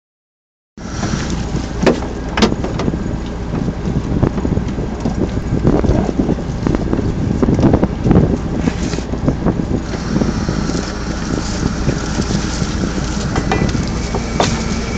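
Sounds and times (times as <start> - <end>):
wind buffeting microphone: 0.8 - 14.9.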